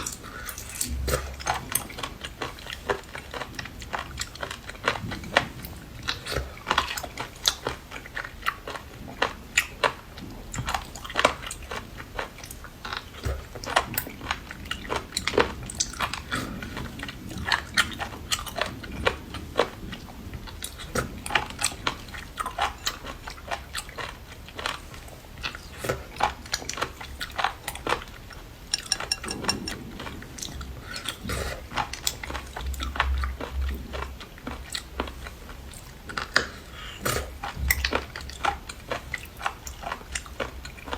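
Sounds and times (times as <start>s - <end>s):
person crunching seafood: 0.0s - 20.0s, 20.8s - 40.9s.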